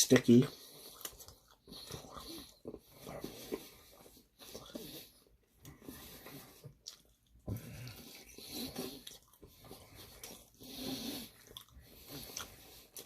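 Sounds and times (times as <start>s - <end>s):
person chewing food: 0.2s - 13.0s.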